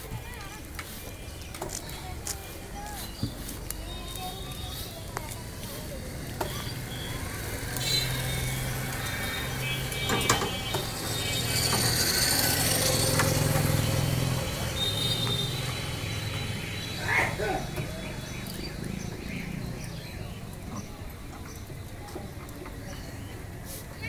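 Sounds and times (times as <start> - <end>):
vehicle engine running: 3.4 - 23.6.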